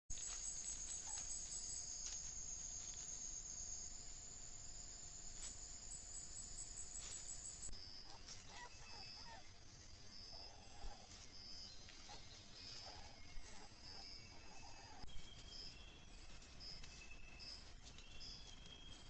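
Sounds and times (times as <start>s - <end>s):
insects chirring: 0.1s - 19.0s.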